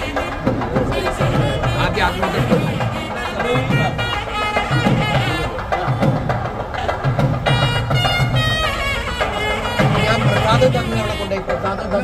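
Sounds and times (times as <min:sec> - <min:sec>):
faint voices: 0:00.0 - 0:12.0
rapid drumming: 0:00.0 - 0:12.0.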